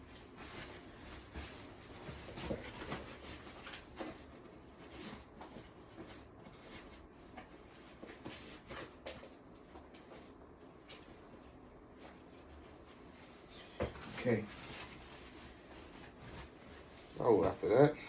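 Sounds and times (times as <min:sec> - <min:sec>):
clothing rustling: 0:00.0 - 0:18.0.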